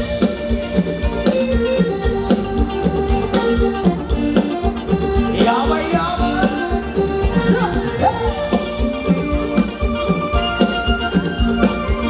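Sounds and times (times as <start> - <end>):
live band music: 0.0 - 12.0
steady drum beat: 0.0 - 12.0.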